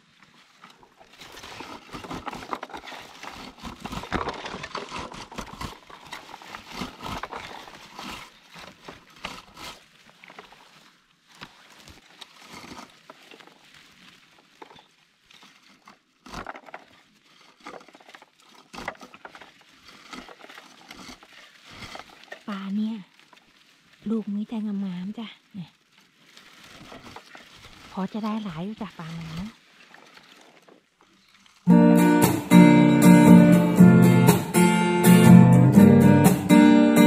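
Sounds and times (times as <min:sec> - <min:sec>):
twigs and leaves rustling: 0:00.0 - 0:31.8.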